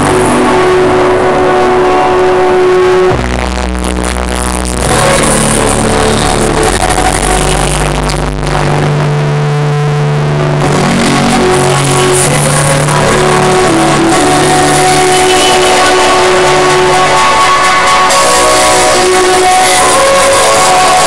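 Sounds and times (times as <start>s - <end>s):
electronic dance music: 0.0s - 21.0s.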